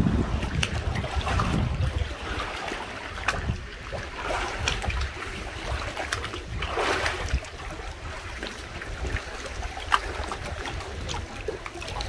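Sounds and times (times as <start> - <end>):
feet splashing through water: 0.0 - 12.0.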